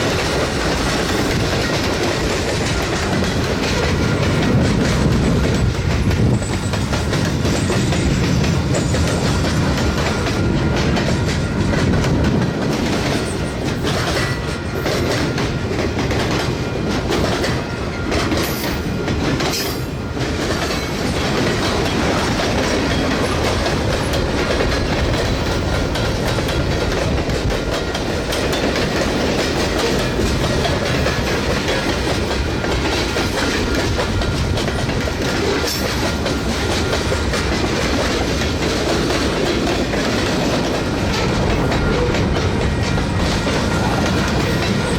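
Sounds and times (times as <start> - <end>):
train wheels on rails: 0.0 - 44.9.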